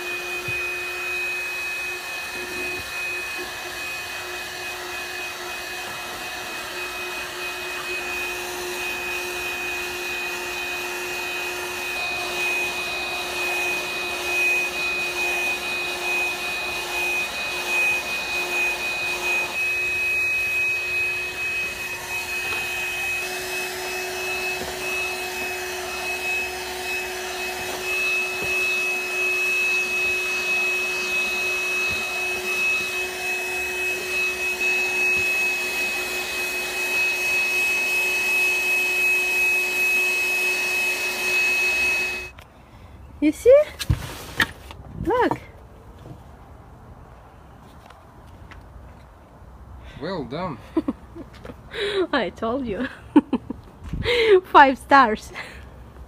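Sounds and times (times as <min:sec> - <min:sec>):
handheld vacuum whine: 0:00.0 - 0:42.5, 0:43.2 - 0:45.5, 0:50.8 - 0:56.0.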